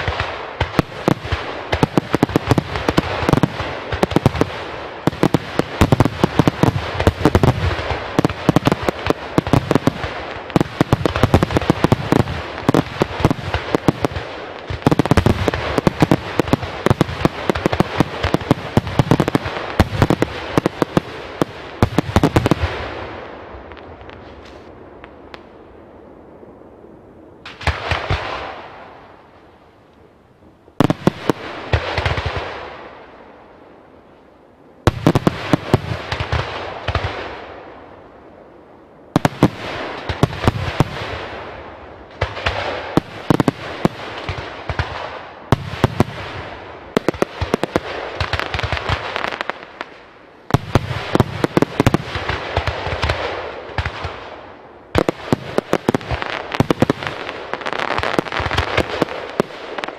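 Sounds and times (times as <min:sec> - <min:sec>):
fireworks bursting with loud bangs: 0:00.0 - 0:25.5, 0:27.4 - 0:29.0, 0:30.8 - 0:33.0, 0:34.8 - 0:37.7, 0:39.1 - 0:59.9
fireworks crackle and hiss: 0:00.0 - 0:25.8, 0:30.8 - 0:38.4, 0:39.1 - 0:59.9.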